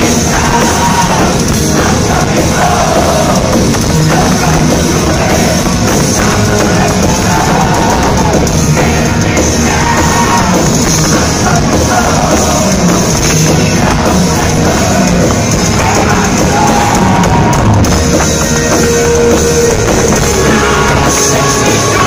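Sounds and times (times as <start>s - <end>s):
person singing: 0.0s - 17.8s, 19.7s - 22.0s
drum kit: 0.0s - 22.0s
electric guitars: 0.0s - 22.0s.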